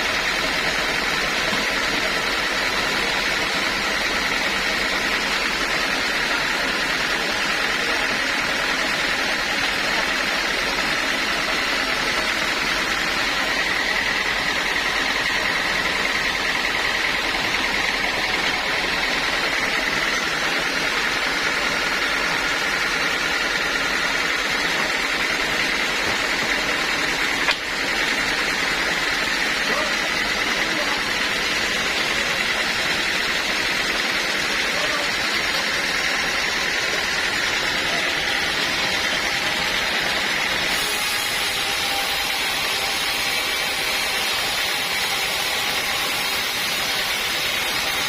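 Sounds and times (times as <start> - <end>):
saw high whine: 0.0 - 48.0
sawmill machinery noise: 0.0 - 48.0.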